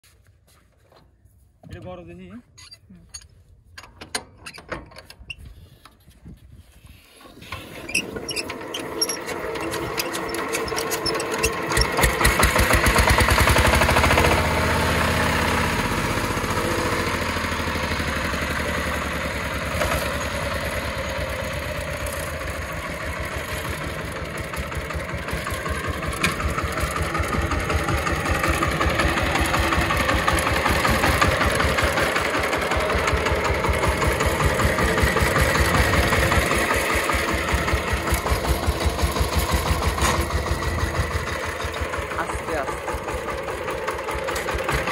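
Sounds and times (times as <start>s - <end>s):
diesel engine starting and idling: 7.0s - 44.9s.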